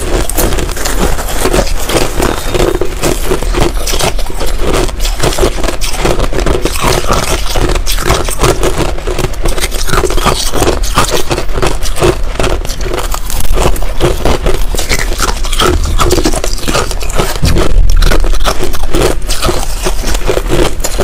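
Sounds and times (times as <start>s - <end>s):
crushed ice being chewed: 0.0s - 21.0s.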